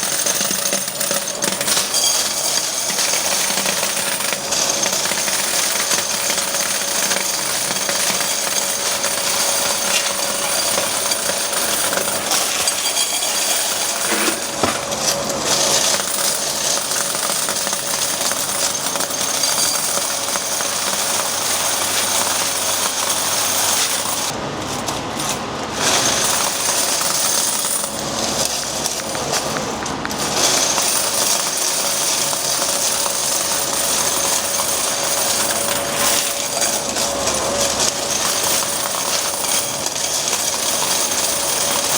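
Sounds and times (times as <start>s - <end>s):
coins rattling through machine: 0.0s - 41.9s.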